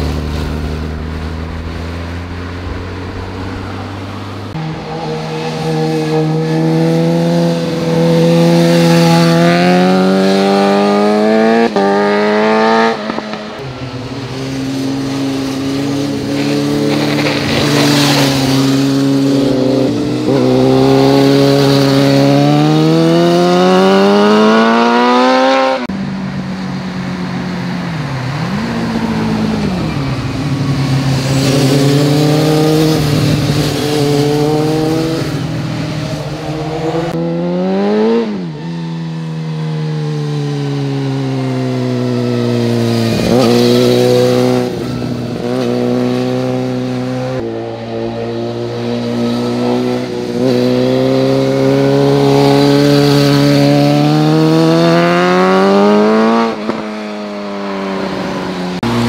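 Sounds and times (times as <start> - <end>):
motorcycles accelerating: 0.0 - 59.0.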